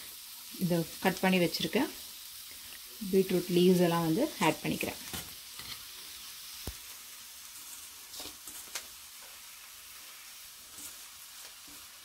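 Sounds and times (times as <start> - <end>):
oil and onions sizzling: 0.0 - 12.0.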